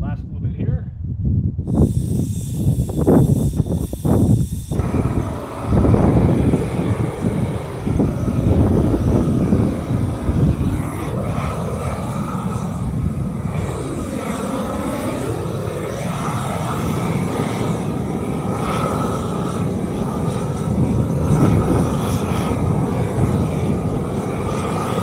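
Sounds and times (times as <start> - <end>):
heavy machinery running: 4.7 - 25.0.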